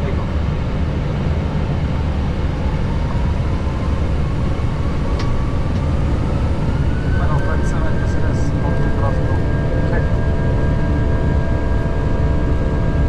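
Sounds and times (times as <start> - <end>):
cockpit engine rumble: 0.0 - 13.0
faint whine rising in pitch: 1.8 - 13.0.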